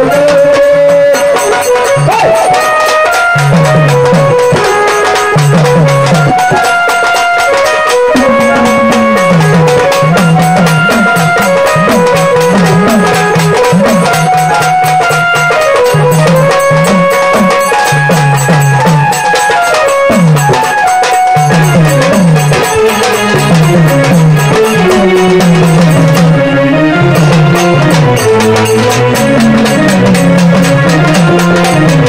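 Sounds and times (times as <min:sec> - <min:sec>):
hand drum beating: 0:00.0 - 0:32.0
keyboard melody with bass line: 0:01.4 - 0:32.0.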